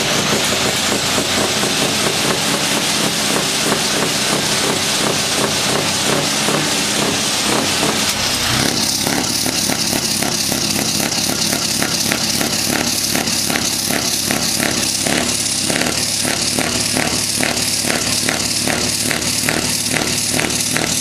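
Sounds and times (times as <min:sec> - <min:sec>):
hiss with rapid pulsing: 0:00.0 - 0:21.0
truck engine under throttle: 0:00.0 - 0:21.0.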